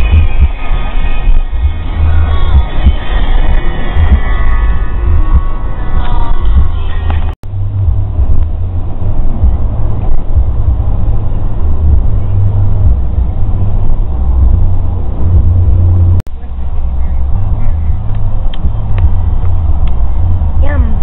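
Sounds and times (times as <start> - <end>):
car engine and tyres rumbling: 0.0 - 21.0
music: 0.0 - 21.0.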